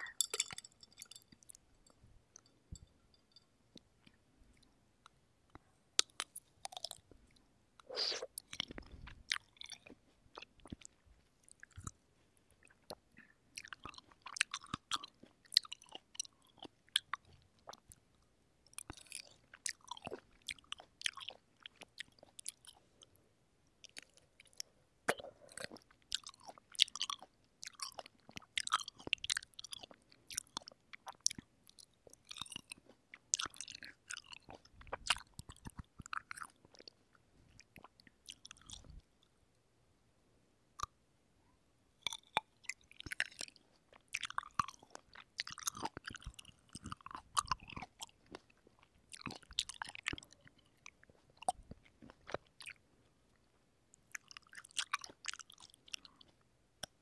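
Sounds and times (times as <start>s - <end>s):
chewing juicy cherries: 4.0s - 39.3s, 42.0s - 57.0s.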